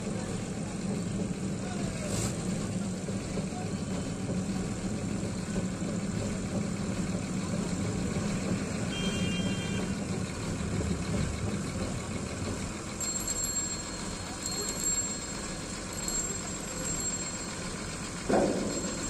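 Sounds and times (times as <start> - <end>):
ferry engine droning: 0.0 - 19.0.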